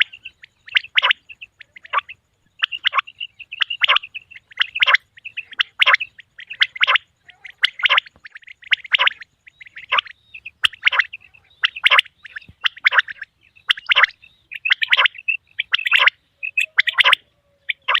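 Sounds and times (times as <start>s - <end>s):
quail calling: 0.0s - 18.0s.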